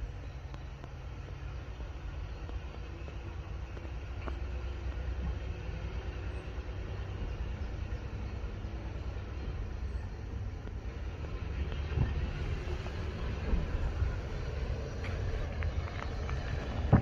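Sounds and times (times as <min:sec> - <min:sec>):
railcar diesel engines running: 0:00.0 - 0:17.0.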